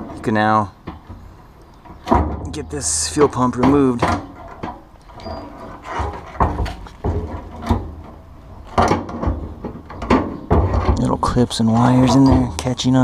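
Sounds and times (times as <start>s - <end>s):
fuel pump scraping and rattling: 0.0s - 13.0s.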